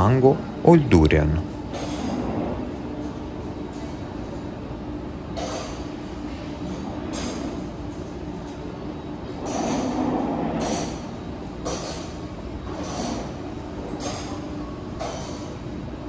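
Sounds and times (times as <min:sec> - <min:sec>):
room hum with low tone: 0:00.0 - 0:16.0.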